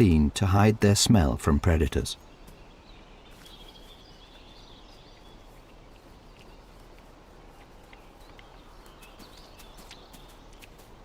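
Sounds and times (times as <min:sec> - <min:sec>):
bird chirps: 0:01.8 - 0:11.0.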